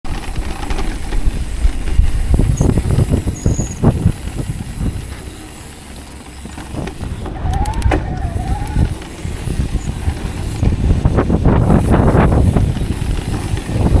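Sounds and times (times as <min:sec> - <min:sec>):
bike rattling and knocking: 0:00.0 - 0:14.0
wind rumble on microphone: 0:00.1 - 0:05.3, 0:06.6 - 0:14.0
tyres rolling over dirt: 0:00.1 - 0:14.0.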